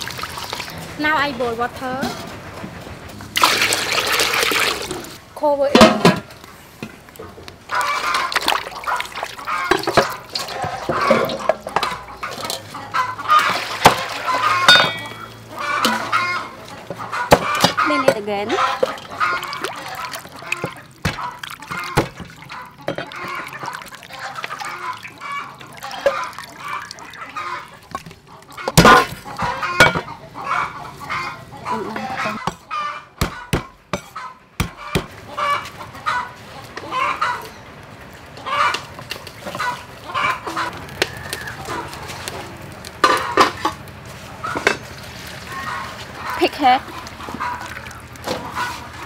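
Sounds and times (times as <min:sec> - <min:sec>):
chickens clucking: 0:07.2 - 0:49.0.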